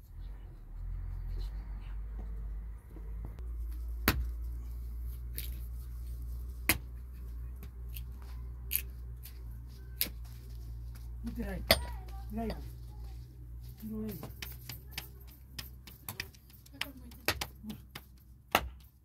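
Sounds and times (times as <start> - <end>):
hands stretching dough: 3.4 - 19.0.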